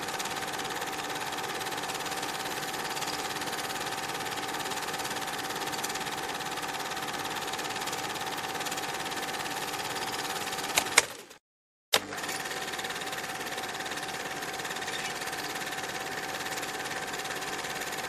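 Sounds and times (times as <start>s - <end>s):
film projector whirring clatter: 0.0s - 18.0s.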